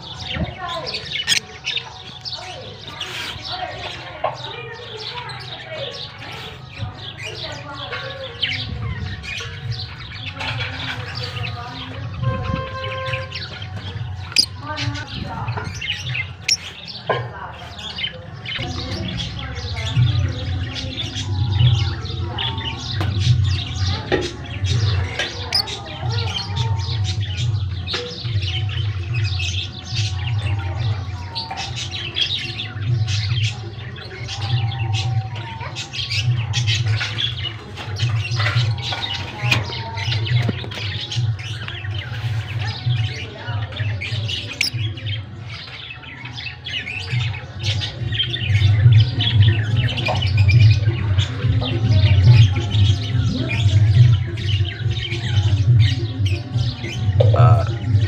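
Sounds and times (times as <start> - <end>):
lovebirds chattering and squawking: 0.0 - 58.0.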